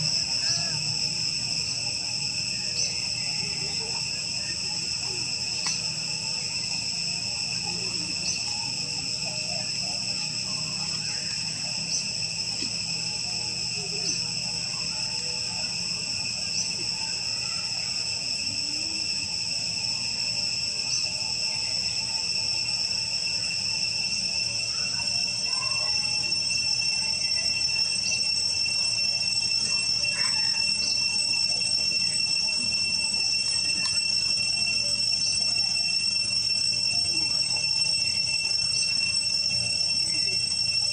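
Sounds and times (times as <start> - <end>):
high-pitched insect drone: 0.0 - 40.9.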